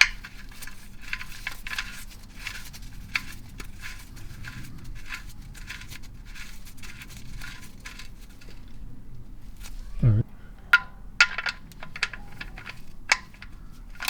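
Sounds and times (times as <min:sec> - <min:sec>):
faint low hum: 0:02.1 - 0:14.0.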